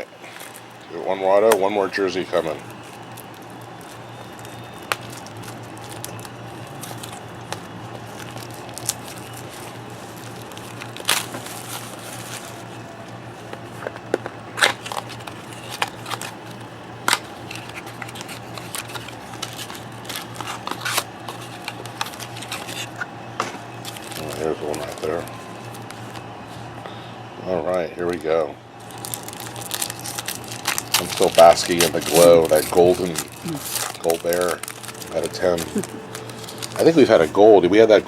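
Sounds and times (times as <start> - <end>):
card pack wrapper crinkling: 0.3 - 23.1, 23.7 - 26.3, 28.0 - 38.0
wrapper tearing: 1.4 - 12.9, 14.6 - 23.1, 23.8 - 26.2, 28.8 - 38.0
cards being handled: 1.4 - 26.6, 28.9 - 38.0.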